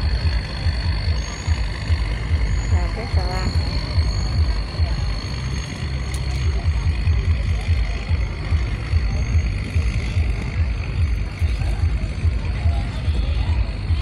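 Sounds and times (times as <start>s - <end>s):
diesel engine throbbing: 0.0s - 14.0s
faint high whine: 0.0s - 14.0s.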